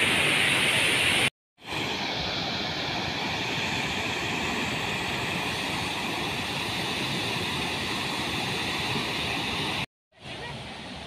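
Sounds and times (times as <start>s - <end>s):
water rushing down spillway: 0.0s - 11.0s.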